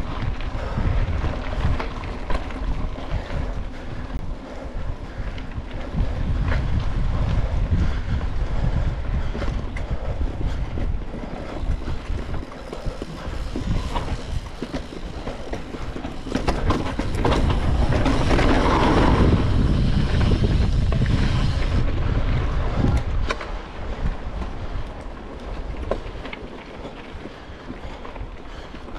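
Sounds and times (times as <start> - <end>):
bike rattling and knocking: 0.0 - 28.9
bike tyre rumble on dirt: 0.0 - 28.9
wind on microphone: 0.0 - 28.9.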